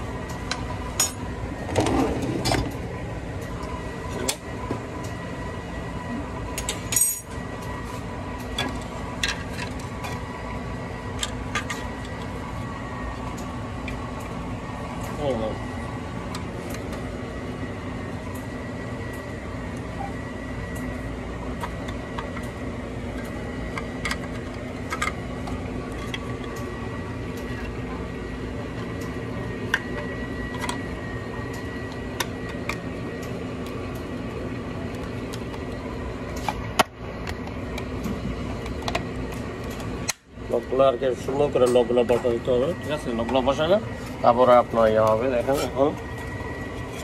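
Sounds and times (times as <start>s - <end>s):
steady mechanical hum: 0.0s - 47.0s.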